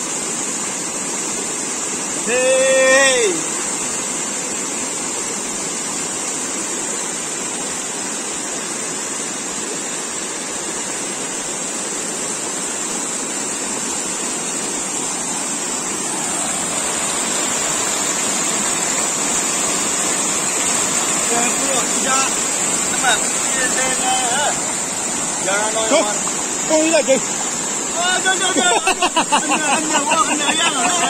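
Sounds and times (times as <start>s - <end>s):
stream water rushing over net: 0.0s - 31.0s.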